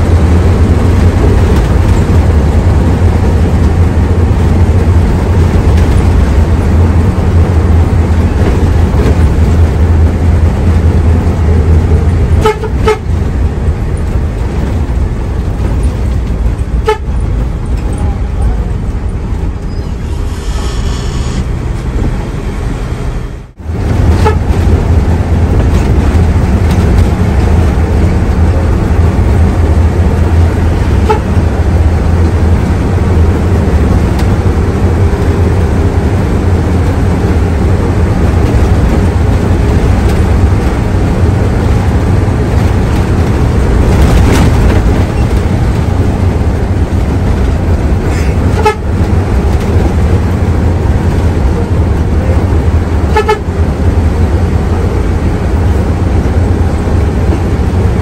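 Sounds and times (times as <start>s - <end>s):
bus diesel engine drone: 0.0s - 58.0s
road and tyre noise: 0.0s - 58.0s.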